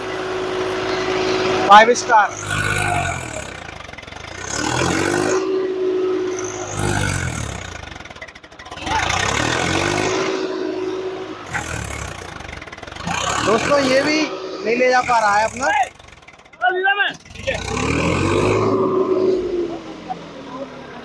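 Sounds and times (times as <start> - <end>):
tractor diesel engine revving: 0.0 - 21.0.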